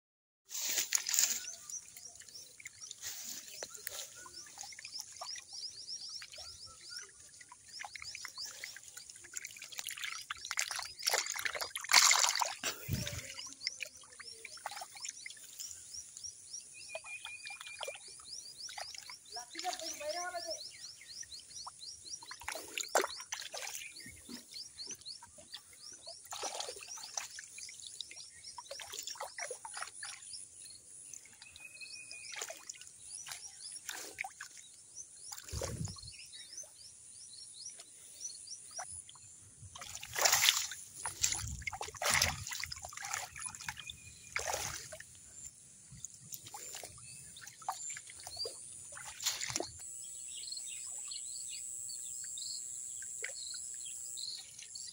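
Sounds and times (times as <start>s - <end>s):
water splashing and sloshing: 0.5s - 36.8s, 37.5s - 54.9s.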